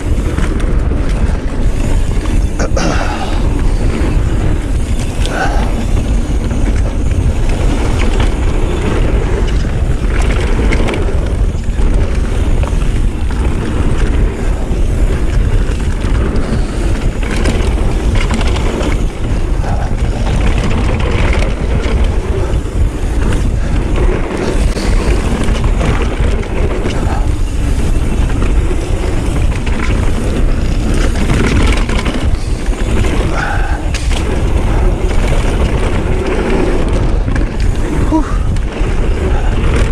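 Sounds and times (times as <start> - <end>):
bike knocks and rattles: 0.0 - 39.9
tyres rolling on dirt trail: 0.0 - 39.9
wind on microphone: 0.0 - 39.9.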